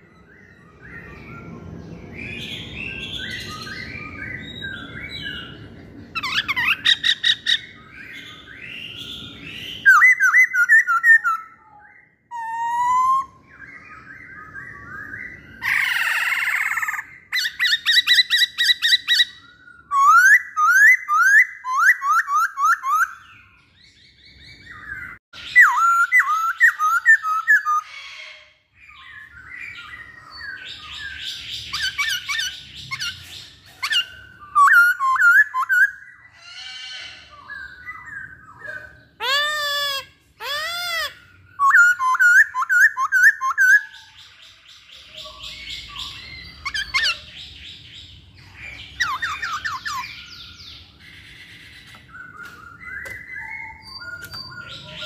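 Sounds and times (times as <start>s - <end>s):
bird whistled song: 0.0s - 55.0s.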